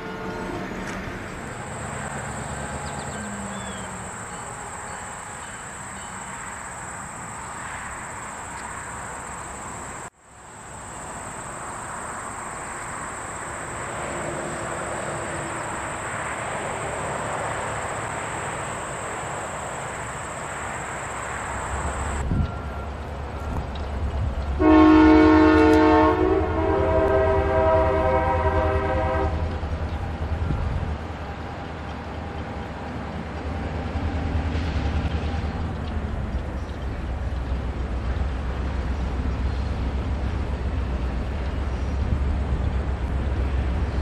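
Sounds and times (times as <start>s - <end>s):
freight train rumbling by: 0.0s - 44.0s.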